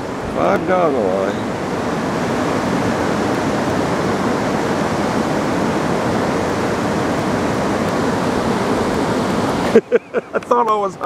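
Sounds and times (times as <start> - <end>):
wind rushing: 0.0 - 9.8
river water flowing: 0.0 - 11.0.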